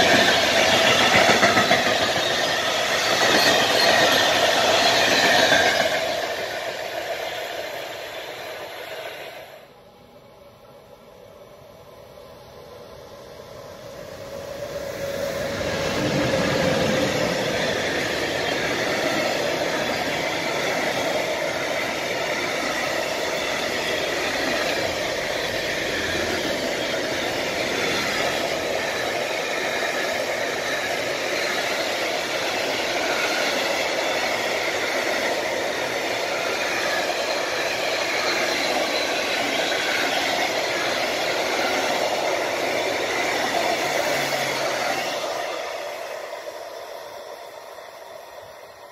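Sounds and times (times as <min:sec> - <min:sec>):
freight train wheels rolling on rails: 0:00.0 - 0:48.9.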